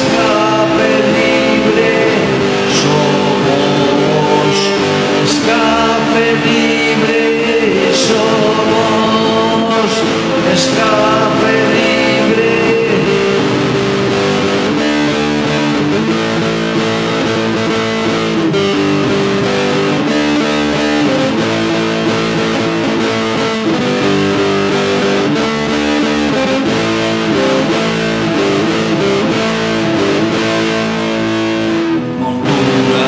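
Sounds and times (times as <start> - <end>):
distorted electric guitar: 0.0 - 33.0
rock band instrumental: 0.0 - 33.0.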